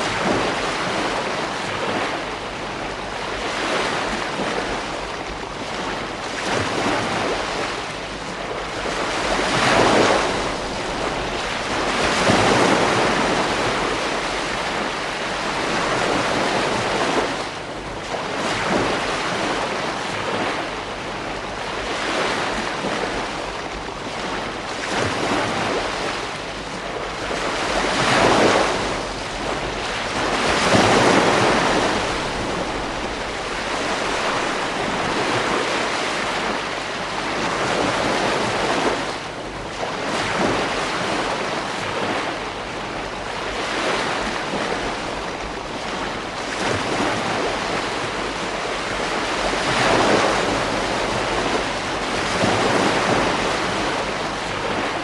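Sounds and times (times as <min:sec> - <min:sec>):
ocean waves breaking: 0:00.0 - 0:55.0
wind noise on microphone: 0:00.0 - 0:55.0.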